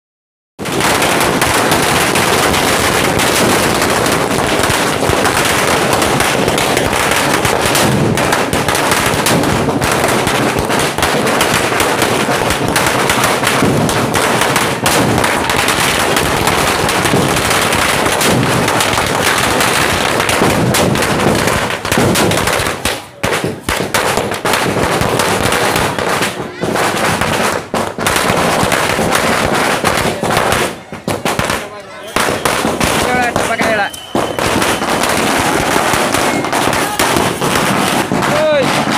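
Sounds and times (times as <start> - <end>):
firecrackers banging: 0.6 - 38.9.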